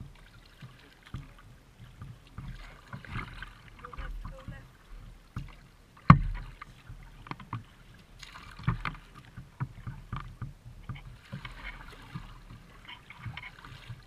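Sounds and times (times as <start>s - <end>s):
paddle knocking on hull: 0.0s - 14.0s
paddle splashing water: 0.0s - 14.0s.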